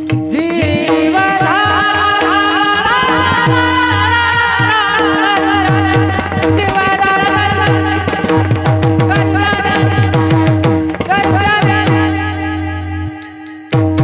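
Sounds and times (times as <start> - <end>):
hand drum strokes: 0.0 - 12.3
person singing: 0.0 - 13.5.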